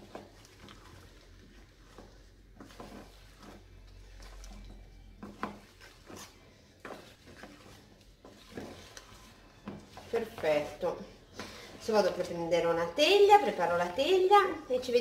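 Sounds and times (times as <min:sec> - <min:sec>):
wooden spoon scraping bowl: 0:00.0 - 0:15.0.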